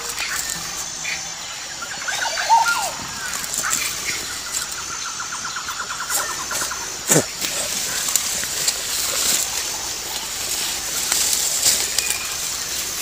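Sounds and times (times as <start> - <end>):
birds chirping and calling: 0.0 - 13.0
steady high hiss: 0.0 - 13.0.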